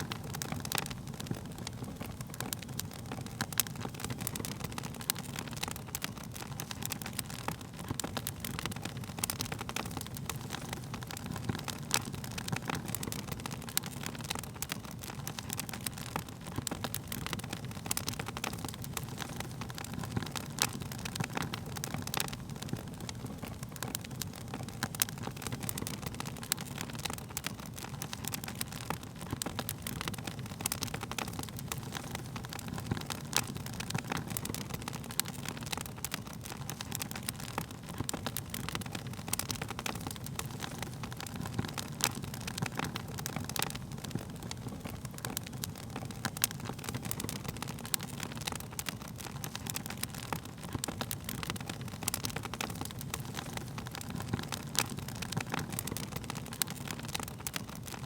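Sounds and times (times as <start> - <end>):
wood crackling and popping: 0.0 - 58.0
wood fire burning: 0.0 - 58.0.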